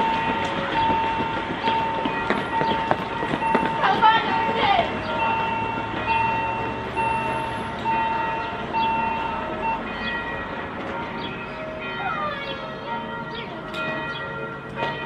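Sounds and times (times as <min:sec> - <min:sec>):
level crossing bell ringing: 0:00.0 - 0:15.0.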